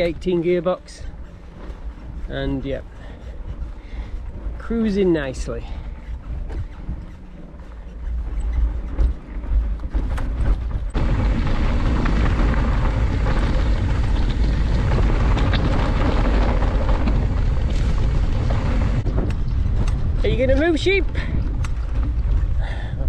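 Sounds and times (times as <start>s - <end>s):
bike tyre rumble on dirt: 0.0s - 23.0s
wind buffeting microphone: 0.0s - 23.0s.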